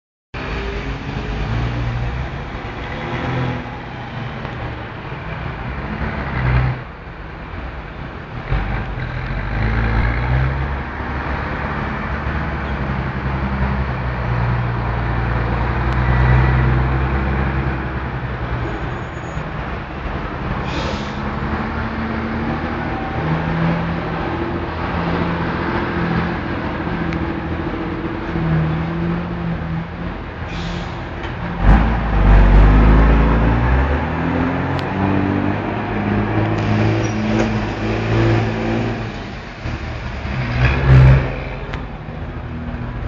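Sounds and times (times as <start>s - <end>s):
cars and trucks passing: 0.4s - 43.0s.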